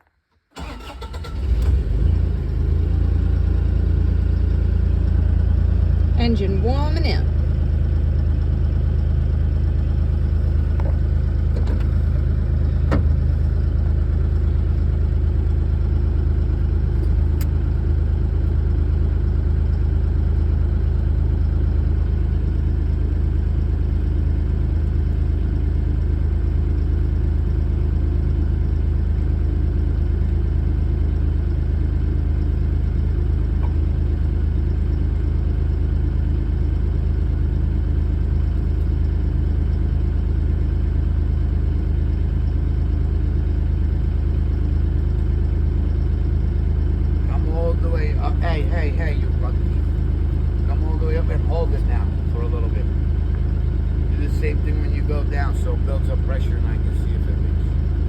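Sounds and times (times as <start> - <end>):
excavator diesel engine idling: 0.6 - 58.0.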